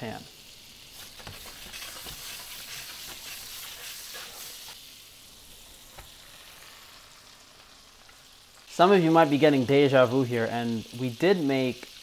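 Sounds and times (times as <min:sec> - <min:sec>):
butter sizzling in frying pan: 0:00.0 - 0:12.0.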